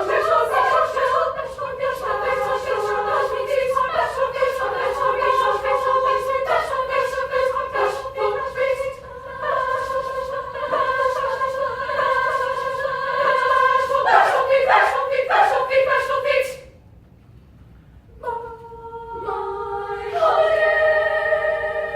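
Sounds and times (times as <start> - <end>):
choir singing held chords: 0.0 - 16.8, 18.2 - 21.9.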